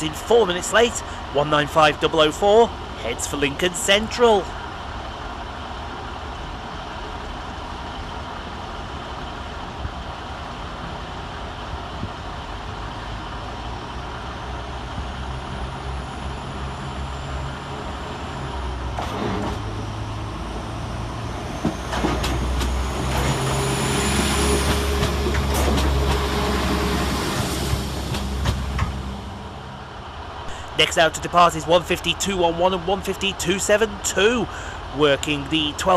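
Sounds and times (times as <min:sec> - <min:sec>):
diesel train engines running: 0:00.0 - 0:35.9.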